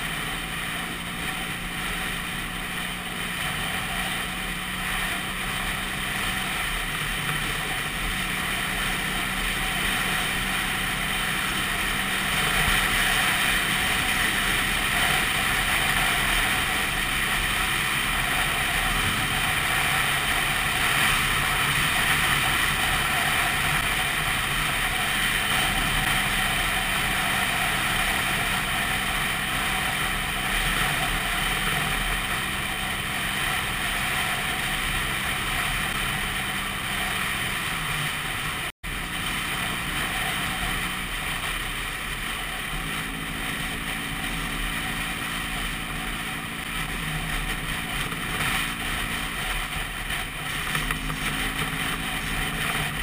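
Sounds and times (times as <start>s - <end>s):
scooter engine running: 0.0s - 53.0s
wind and road noise: 0.0s - 53.0s.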